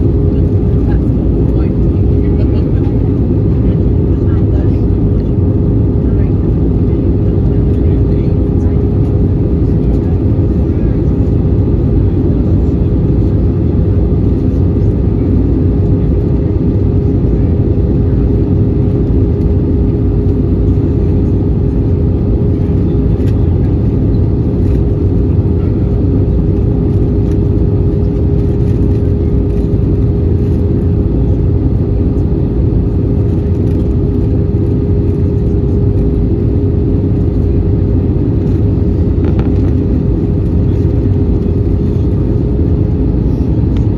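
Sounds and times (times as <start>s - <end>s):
jet engine hum: 0.0s - 43.9s.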